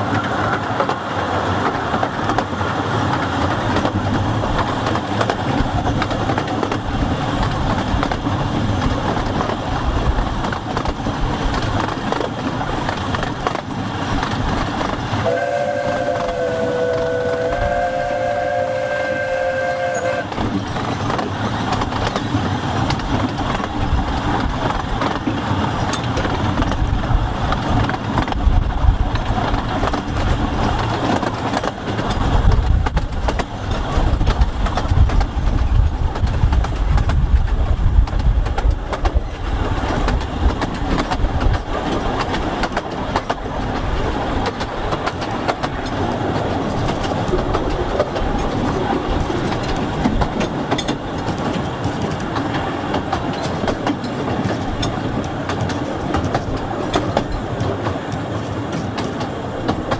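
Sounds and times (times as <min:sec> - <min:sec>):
train wheels clattering on rails: 0:00.0 - 0:59.9
wind buffeting microphone: 0:00.0 - 0:59.9.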